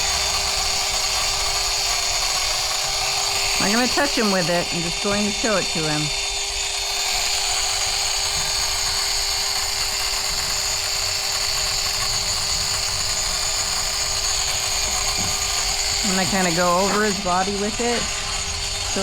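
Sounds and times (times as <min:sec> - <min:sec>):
angle grinder running: 0:00.0 - 0:19.0.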